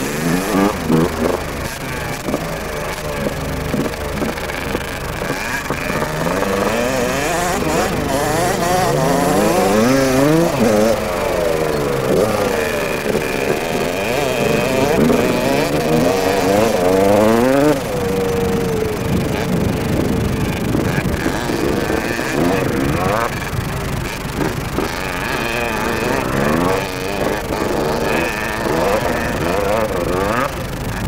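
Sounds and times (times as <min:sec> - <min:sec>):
motocross bikes revving: 0:00.0 - 0:31.0.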